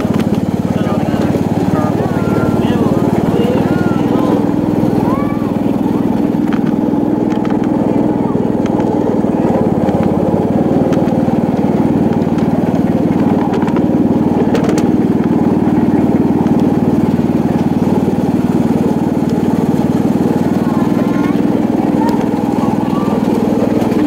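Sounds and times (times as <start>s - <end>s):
small train engine running: 0.0s - 24.0s.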